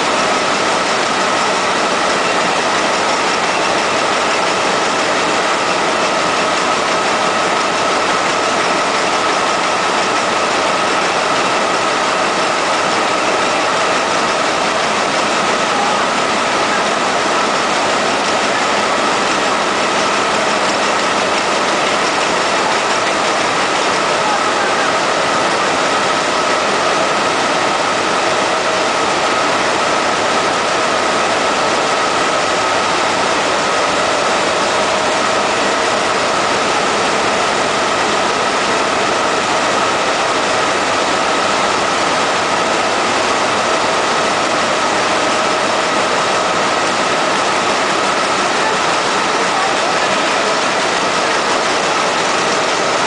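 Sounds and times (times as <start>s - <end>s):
loom machine din: 0.0s - 53.0s.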